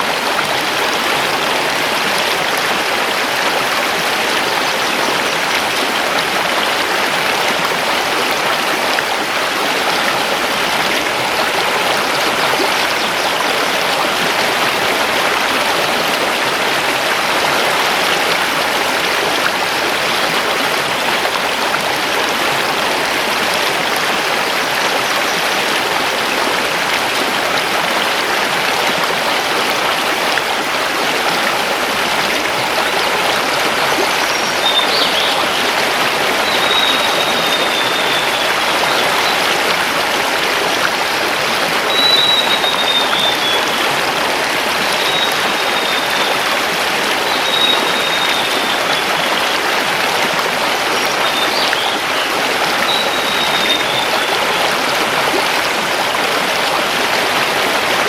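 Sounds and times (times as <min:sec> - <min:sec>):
river flowing over stones: 0:00.0 - 0:58.0.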